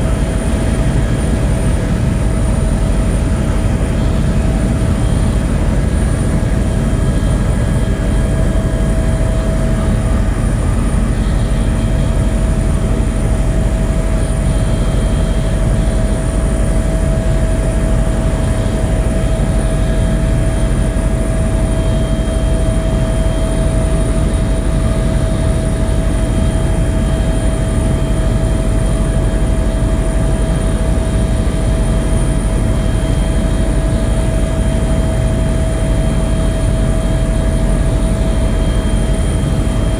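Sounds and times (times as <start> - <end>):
aircraft engine droning: 0.0 - 39.9
constant whine: 0.0 - 39.9.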